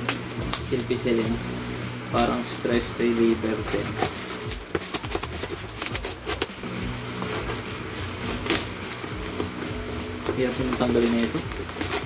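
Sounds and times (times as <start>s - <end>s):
scissors cutting plastic: 0.0s - 1.4s, 2.2s - 12.0s
plastic packaging rustling: 0.0s - 12.0s.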